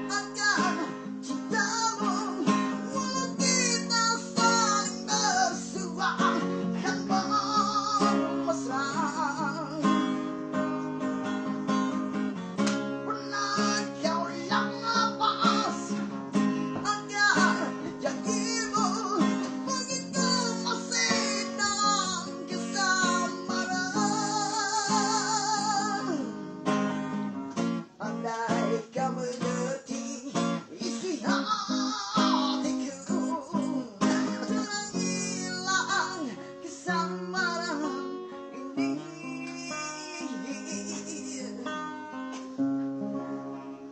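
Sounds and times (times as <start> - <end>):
strummed acoustic guitar: 0.0 - 43.9
wavering guitar lead melody: 0.0 - 43.9.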